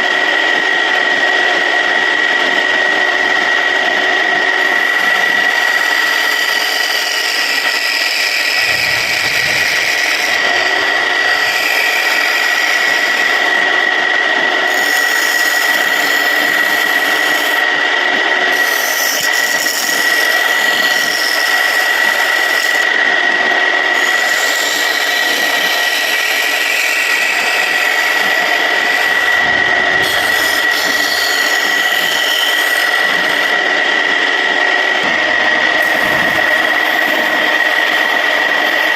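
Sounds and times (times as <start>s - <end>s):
wood lathe whining: 0.0s - 38.9s
tool scraping spinning wood: 3.2s - 17.8s, 18.5s - 38.9s.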